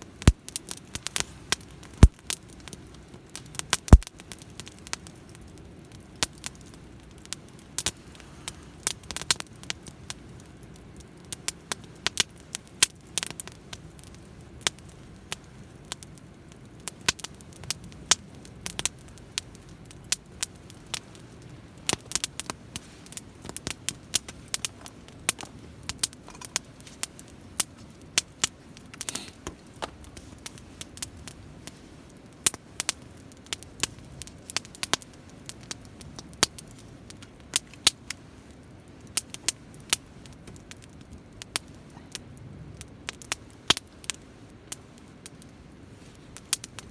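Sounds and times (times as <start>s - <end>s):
campfire crackling and popping: 0.0s - 46.9s.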